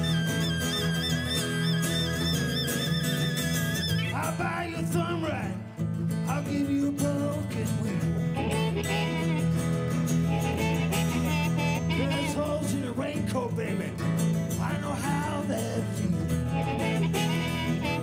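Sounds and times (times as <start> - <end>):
harmonica lead line: 0.0 - 6.4, 7.2 - 18.0
strummed acoustic guitars: 0.0 - 18.0.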